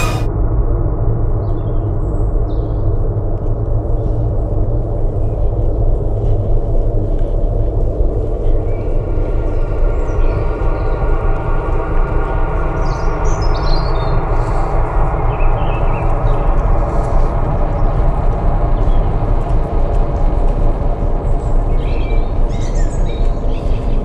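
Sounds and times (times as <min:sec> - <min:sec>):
deep droning hum: 0:00.0 - 0:24.0.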